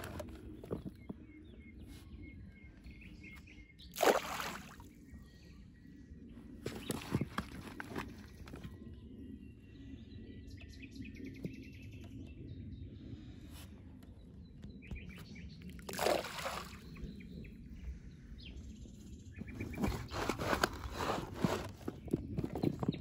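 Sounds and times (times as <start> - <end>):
birds chirping and trilling: 0.0 - 23.0.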